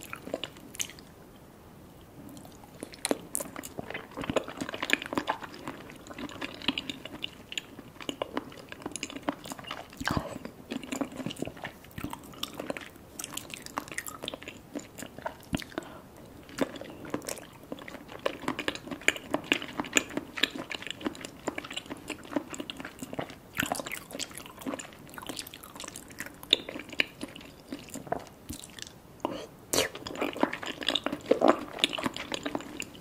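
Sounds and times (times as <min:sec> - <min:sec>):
wet chewing squelches: 0:00.0 - 0:01.1, 0:02.3 - 0:33.0.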